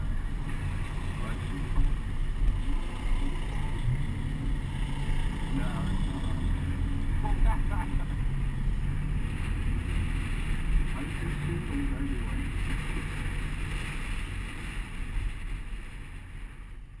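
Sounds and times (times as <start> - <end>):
car rumble: 0.0 - 17.0
wind rushing over camera: 0.0 - 17.0.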